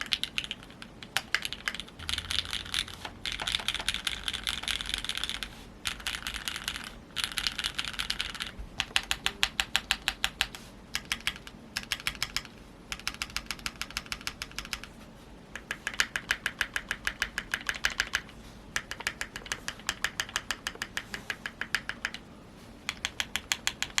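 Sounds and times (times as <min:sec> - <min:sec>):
typing on mechanical keyboard: 0:00.0 - 0:15.0, 0:15.6 - 0:22.3, 0:22.9 - 0:24.0.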